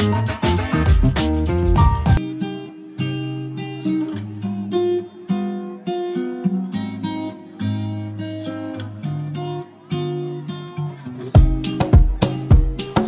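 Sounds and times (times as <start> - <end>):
guitar playing chords: 0.0 - 13.0.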